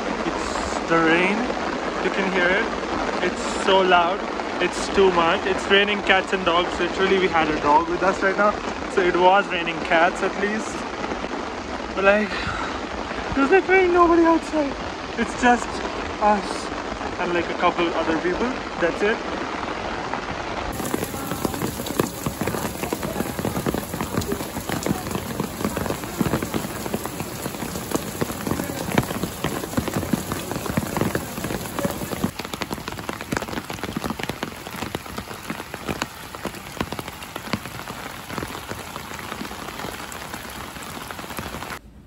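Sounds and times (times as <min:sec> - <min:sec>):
heavy rain on a wet street: 0:00.0 - 0:41.8.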